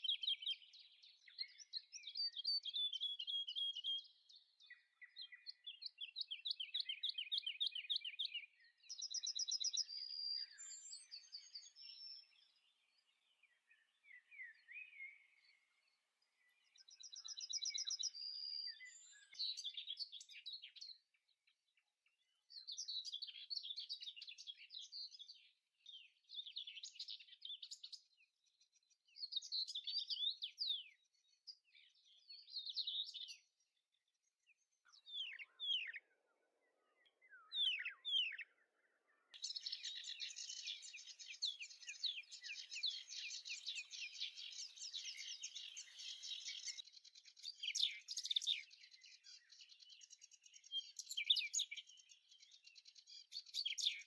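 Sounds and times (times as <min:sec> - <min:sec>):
birdsong trills and chirps: 0:00.0 - 0:54.0.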